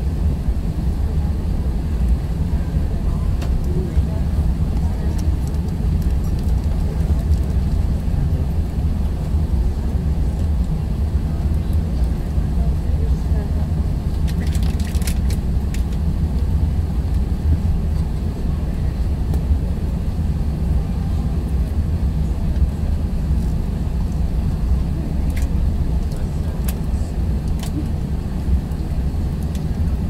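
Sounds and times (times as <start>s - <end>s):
aircraft engines at low power: 0.0s - 30.0s
wheels rolling on taxiway: 0.3s - 30.0s.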